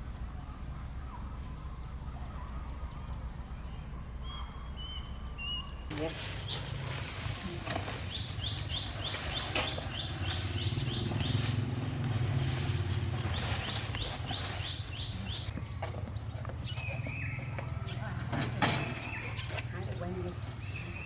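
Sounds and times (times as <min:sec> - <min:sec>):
bird calling: 0:00.0 - 0:21.0.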